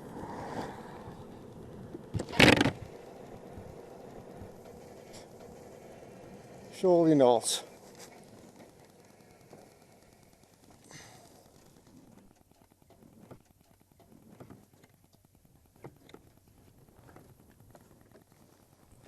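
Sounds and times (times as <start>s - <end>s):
faint clicks: 0.0s - 19.0s.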